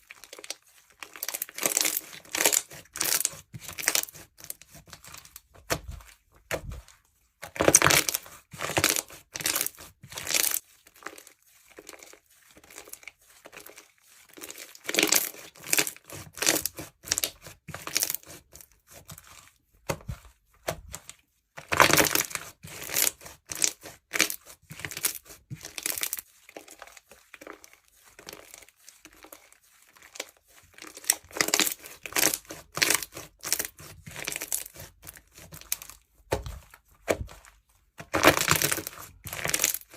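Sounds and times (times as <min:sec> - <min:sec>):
bead slime being squished: 0:00.2 - 0:13.8, 0:14.4 - 0:19.4, 0:21.6 - 0:26.8, 0:30.0 - 0:39.9.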